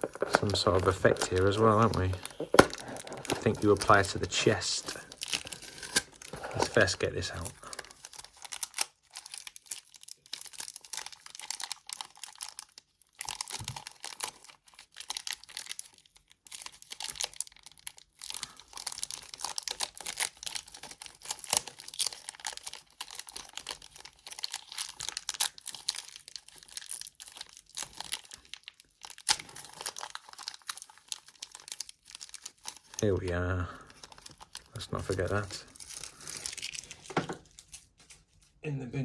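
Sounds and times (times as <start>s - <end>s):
plastic wrapper crinkling: 0.0s - 38.6s.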